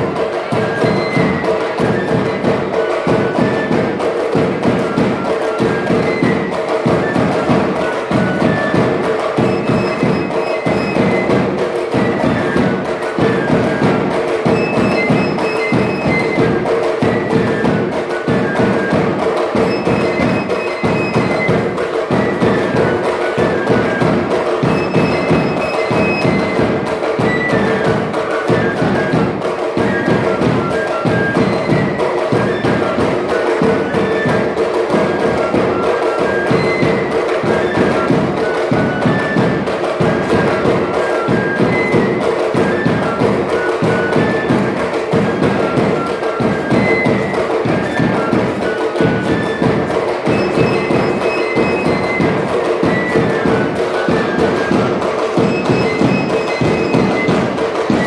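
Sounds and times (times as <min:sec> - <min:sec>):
cane flute playing shrill melody: 0:00.0 - 0:58.0
drum beat: 0:00.0 - 0:58.0.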